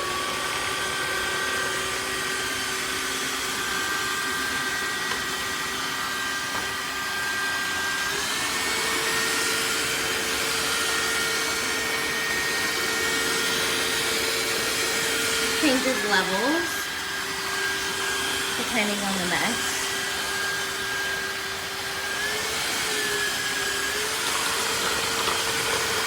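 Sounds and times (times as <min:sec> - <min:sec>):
floor cleaner motor whining: 0:00.0 - 0:26.0.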